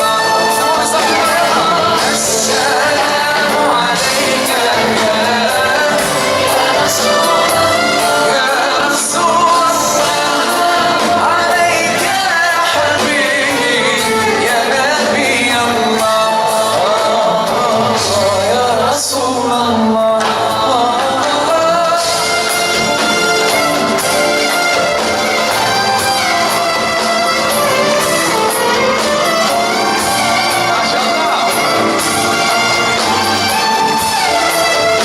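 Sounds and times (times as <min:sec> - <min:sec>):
musical accompaniment: 0:00.0 - 0:35.0.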